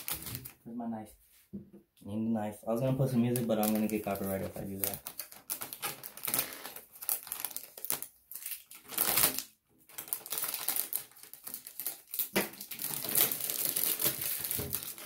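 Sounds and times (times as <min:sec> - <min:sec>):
plastic wrapping crinkling: 0:00.0 - 0:00.6, 0:02.8 - 0:15.0.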